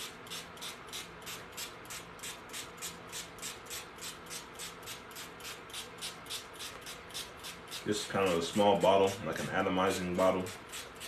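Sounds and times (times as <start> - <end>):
spray bottle hissing sprays: 0.0 - 9.0.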